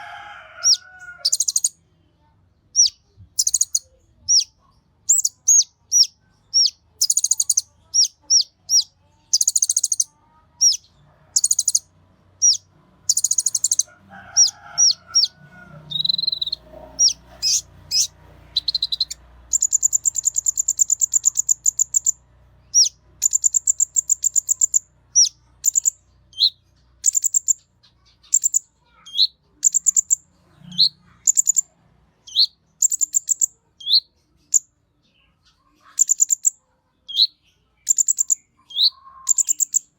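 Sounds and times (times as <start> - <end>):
bird singing high chirps and trills: 0.6 - 1.8, 2.7 - 39.9.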